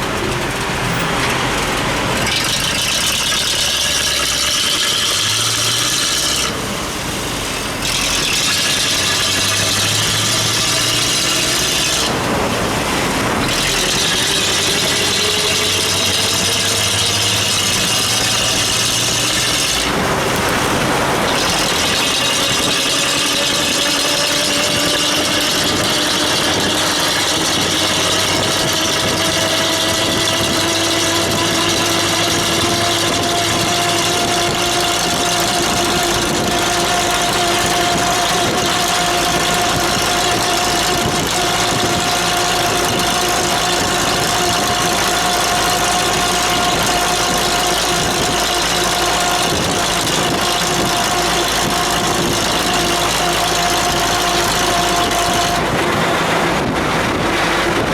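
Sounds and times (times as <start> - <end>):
tyres hissing on wet road: 0.0 - 57.9
vehicle engine hum: 0.0 - 57.9.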